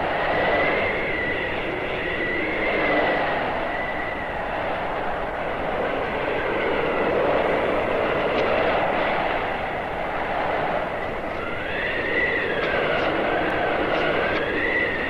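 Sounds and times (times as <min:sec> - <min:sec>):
blizzard wind howling: 0:00.0 - 0:15.0
thin wavering wind whistle: 0:00.0 - 0:15.0.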